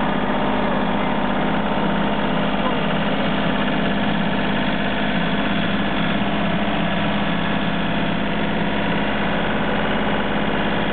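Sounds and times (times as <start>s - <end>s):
small engine running: 0.0s - 10.9s.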